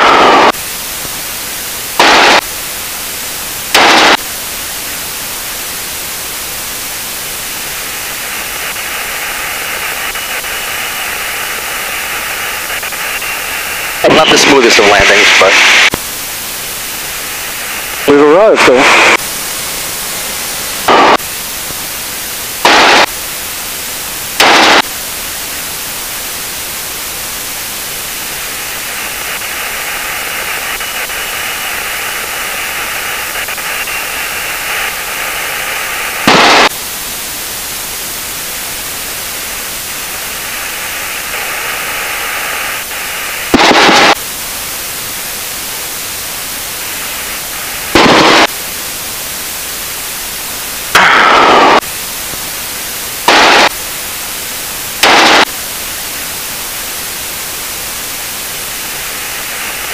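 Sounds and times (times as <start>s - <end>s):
loud static bursts: 0.0s - 59.9s
radio intercom hiss: 0.0s - 59.9s.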